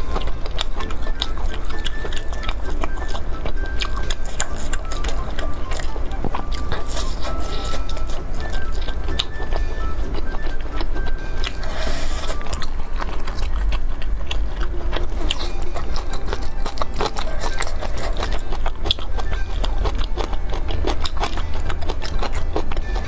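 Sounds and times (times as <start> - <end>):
steady low hum: 0.0 - 23.0
wet chewing clicks and crunches: 0.0 - 23.0.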